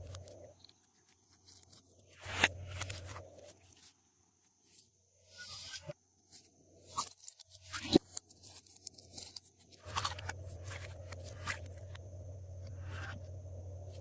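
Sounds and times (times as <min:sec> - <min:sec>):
low steady hum: 0:00.0 - 0:04.4, 0:06.2 - 0:14.0.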